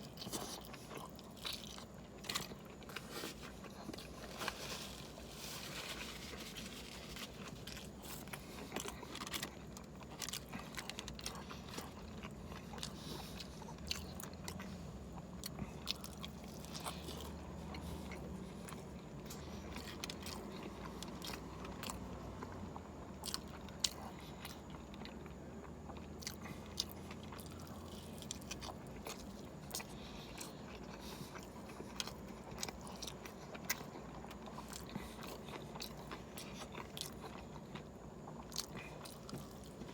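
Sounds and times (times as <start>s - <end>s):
person chewing and biting food: 0.0s - 39.9s
steady low hum: 0.0s - 39.9s.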